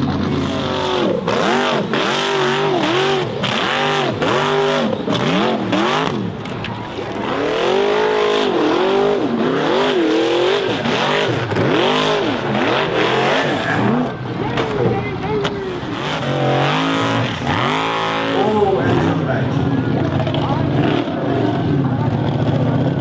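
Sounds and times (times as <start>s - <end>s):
buggy engines revving hard: 0.0s - 23.0s
spinning tyres crunching dirt: 0.0s - 23.0s.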